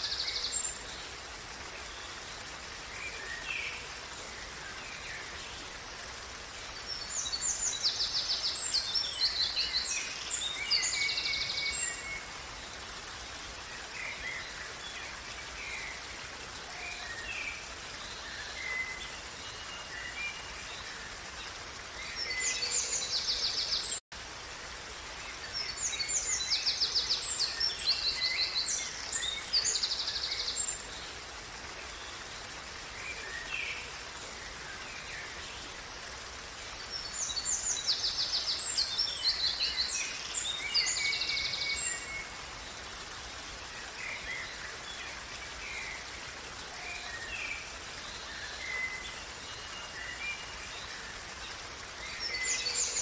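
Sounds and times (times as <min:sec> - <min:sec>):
songbirds singing: 0:00.0 - 0:24.0, 0:25.0 - 0:53.0
stream flowing: 0:00.0 - 0:53.0.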